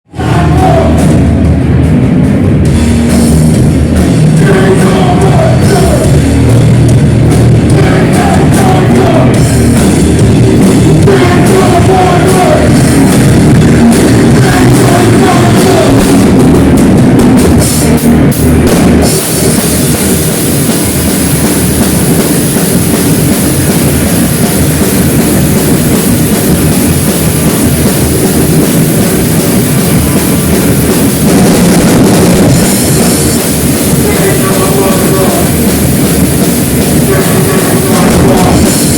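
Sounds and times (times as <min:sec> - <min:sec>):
heavy rock music with drums: 0:00.0 - 0:38.9.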